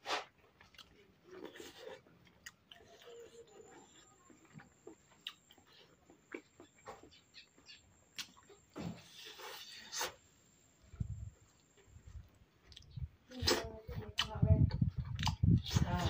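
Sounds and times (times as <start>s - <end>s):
wet mouth chewing: 0.6s - 10.2s, 12.6s - 16.0s.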